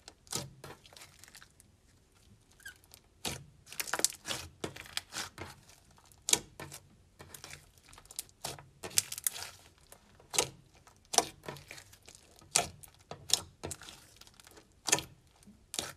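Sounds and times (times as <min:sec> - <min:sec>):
slime crackling: 0:00.0 - 0:15.9.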